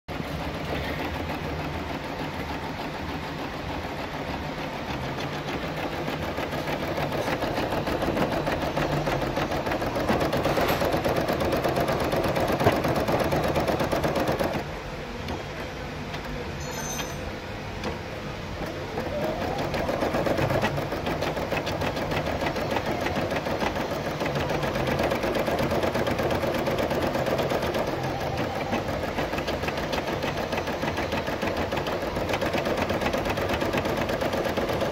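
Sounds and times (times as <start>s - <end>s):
embroidery machine stitching: 0.1s - 14.7s, 15.3s - 34.9s.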